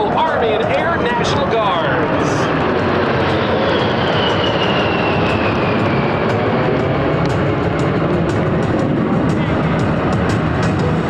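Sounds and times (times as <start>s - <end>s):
high jet whine: 0.0s - 11.0s
jet engines roaring: 0.0s - 11.0s.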